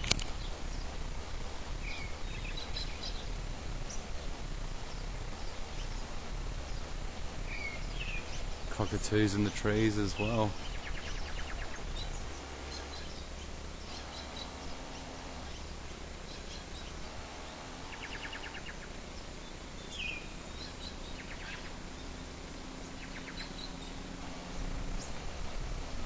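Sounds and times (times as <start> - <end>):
birds calling with rattling trills: 0.0 - 26.0
steady low rumble: 0.0 - 26.0.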